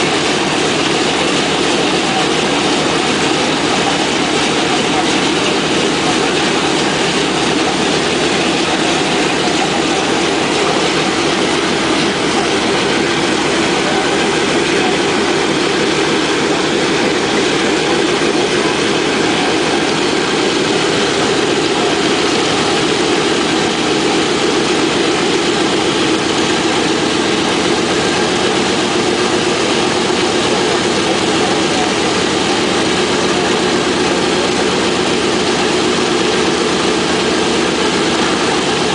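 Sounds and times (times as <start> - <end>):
radial aircraft engines idling: 0.0 - 38.9.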